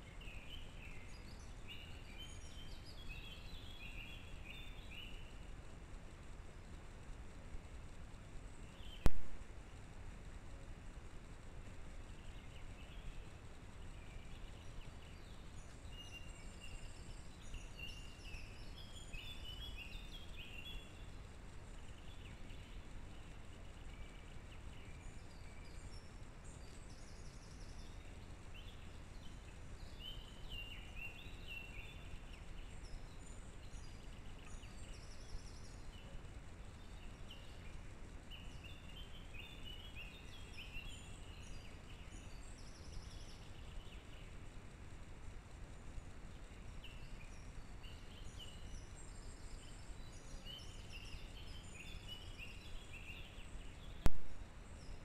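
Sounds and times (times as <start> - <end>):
microphone background hiss: 0.0 - 55.0
small birds singing: 0.0 - 55.0.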